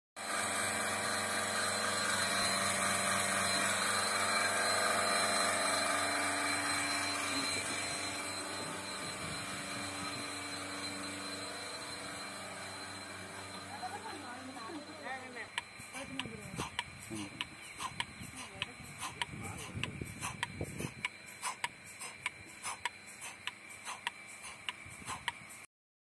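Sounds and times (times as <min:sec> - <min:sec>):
vacuum pump humming and whining: 0:00.2 - 0:25.7.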